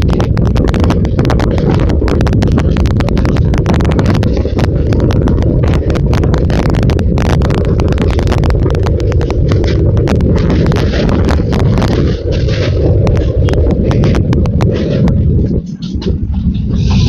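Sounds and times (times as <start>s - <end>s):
train rumbling over bridge: 0.0s - 17.0s
wheels clattering on bridge track: 0.0s - 17.0s.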